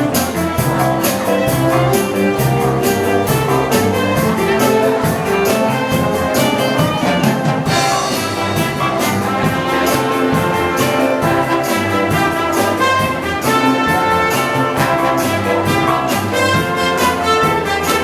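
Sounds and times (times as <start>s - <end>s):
brass melody: 0.0s - 18.0s
steady drum beat: 0.0s - 18.0s.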